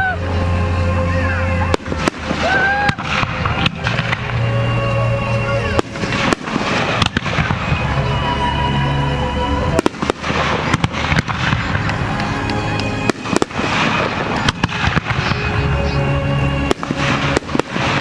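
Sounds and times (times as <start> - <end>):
fireworks bursting: 0.0 - 18.0
fireworks crackle: 0.0 - 18.0
music over loudspeakers: 0.0 - 18.0.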